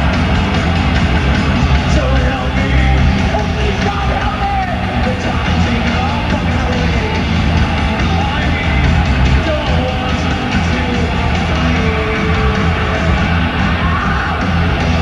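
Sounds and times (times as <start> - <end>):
distorted electric guitars: 0.0 - 15.0
heavy metal band playing live: 0.0 - 15.0.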